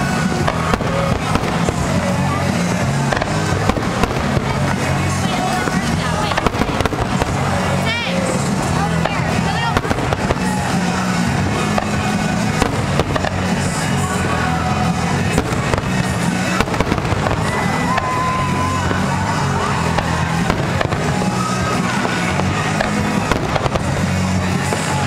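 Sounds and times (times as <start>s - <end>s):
firework shells bursting: 0.0s - 25.0s
loud music playing: 0.0s - 25.0s.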